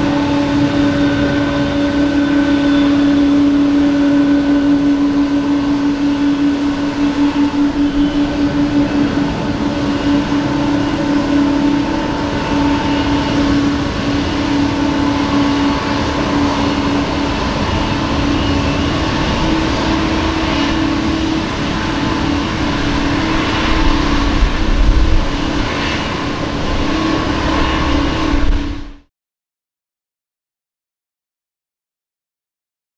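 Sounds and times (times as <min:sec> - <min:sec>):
jet engines roaring: 0:00.0 - 0:29.1
low rumbling: 0:00.0 - 0:29.1.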